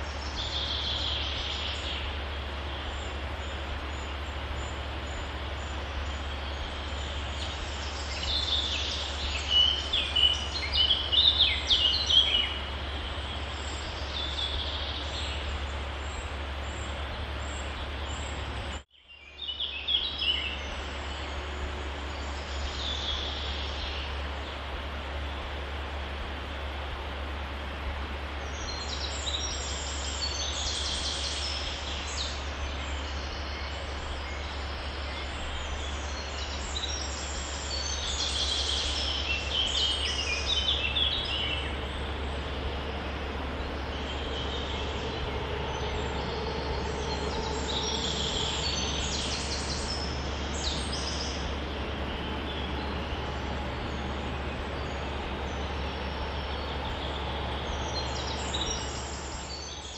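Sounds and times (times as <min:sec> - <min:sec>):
birds chirping: 0:00.0 - 0:59.9
constant low rumble: 0:00.0 - 0:59.9.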